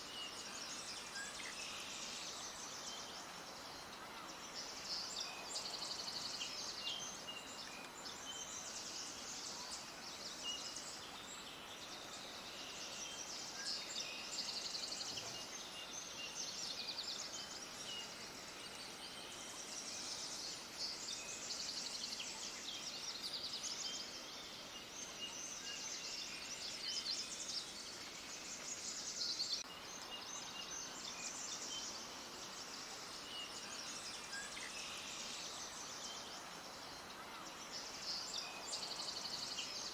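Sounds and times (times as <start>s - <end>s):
faint background hiss: 0.0s - 39.9s
small birds chirping: 0.0s - 39.9s.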